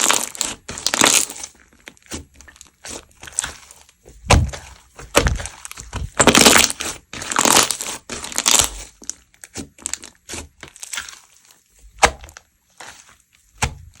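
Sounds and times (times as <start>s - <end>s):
slime crackling and popping: 0.0s - 14.0s.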